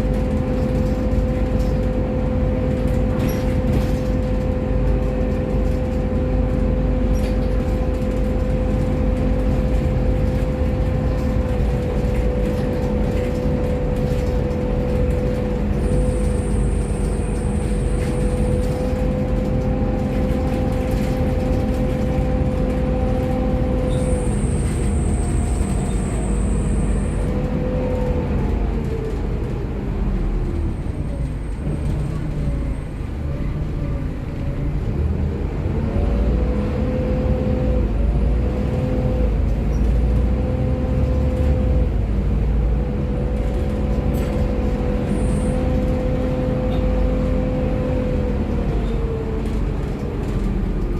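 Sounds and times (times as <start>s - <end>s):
bus engine whine: 0.0s - 50.9s.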